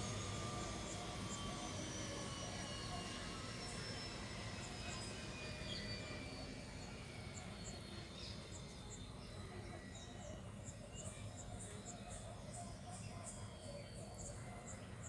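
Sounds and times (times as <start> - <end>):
helicopter turbine whining: 0.0 - 15.0.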